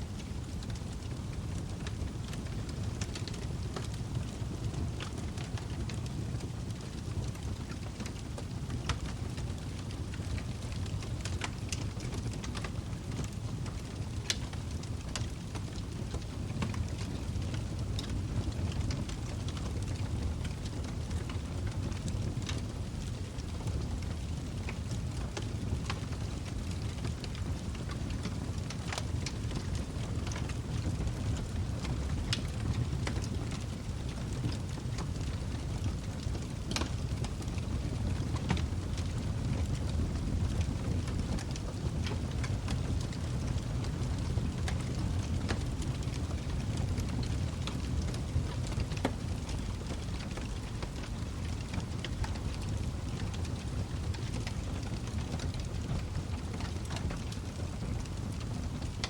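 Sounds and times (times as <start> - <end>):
logs crackling and popping: 0.1 - 59.0.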